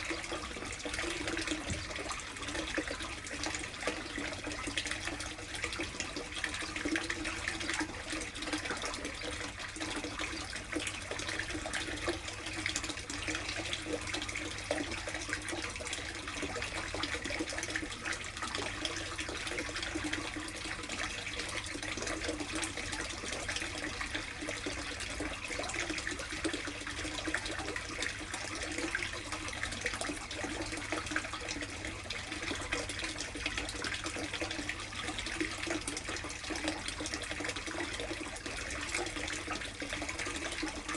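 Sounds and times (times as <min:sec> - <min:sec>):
water splashing into tub: 0:00.0 - 0:40.9.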